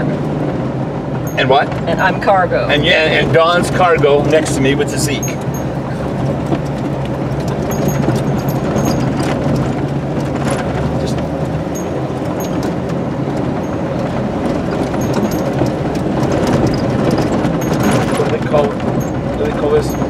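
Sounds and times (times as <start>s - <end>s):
car engine running: 0.0s - 20.0s
tyres rolling on dirt road: 0.0s - 20.0s
light rattles and clicks: 3.7s - 20.0s.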